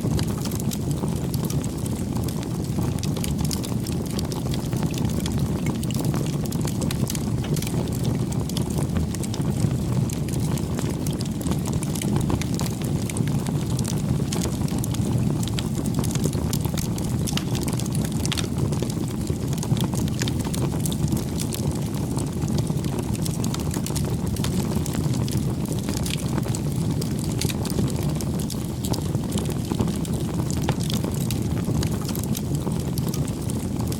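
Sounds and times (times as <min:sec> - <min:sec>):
campfire crackling and popping: 0:00.0 - 0:33.9.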